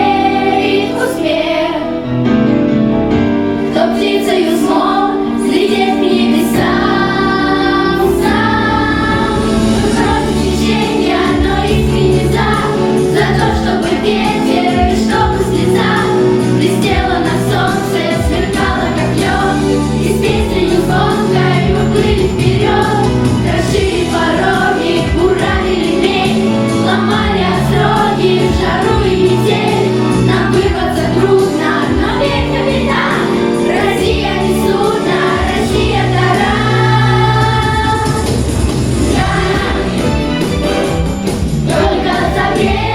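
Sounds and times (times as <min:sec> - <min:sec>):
choir singing: 0:00.0 - 0:02.2, 0:03.6 - 0:42.9
instrumental backing music: 0:00.0 - 0:42.9.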